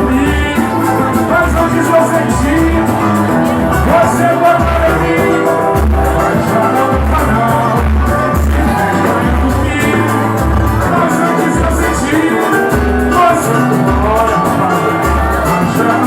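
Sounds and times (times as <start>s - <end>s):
live samba band: 0.0s - 16.0s
person singing: 0.0s - 16.0s.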